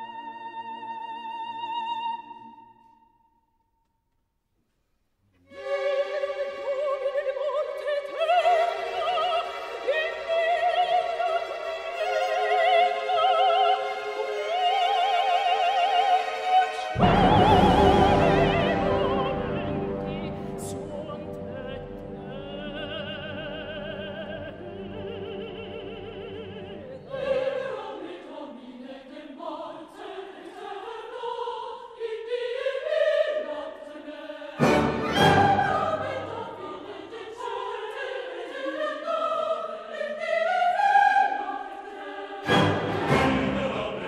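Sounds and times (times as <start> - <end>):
classical singing with orchestra: 0.0 - 3.0, 5.4 - 44.0.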